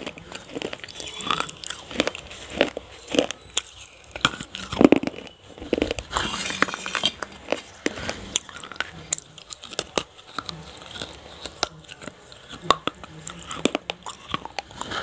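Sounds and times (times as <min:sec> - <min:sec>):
crunchy biting and chewing: 0:00.0 - 0:15.0
wet mouth sounds: 0:00.0 - 0:15.0.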